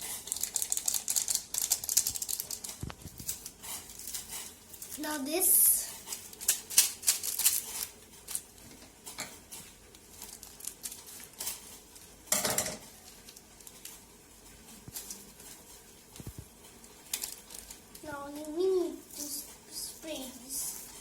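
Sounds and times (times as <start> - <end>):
plastic packaging rustling: 0.0 - 21.0.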